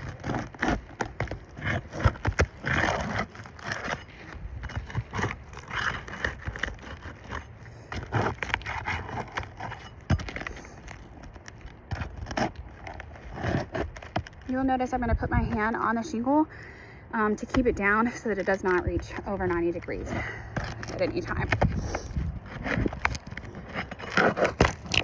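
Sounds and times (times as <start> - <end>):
roof shingles scraping and crackling: 0.0 - 16.3, 17.3 - 25.0.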